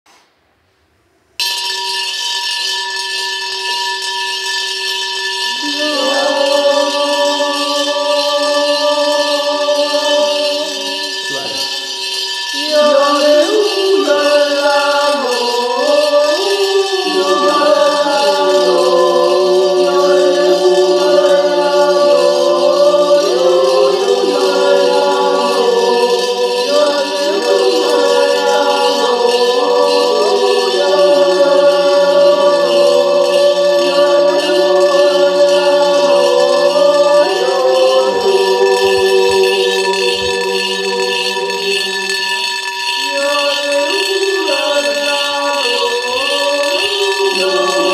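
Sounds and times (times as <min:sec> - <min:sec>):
coins ringing in bowls: 0:01.4 - 0:47.9
voices yodeling: 0:05.5 - 0:47.9.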